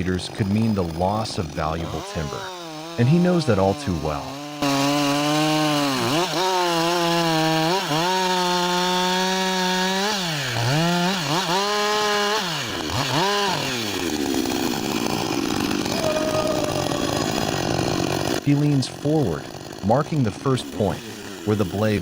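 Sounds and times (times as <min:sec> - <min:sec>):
chainsaw running at high revs: 0:00.0 - 0:22.0.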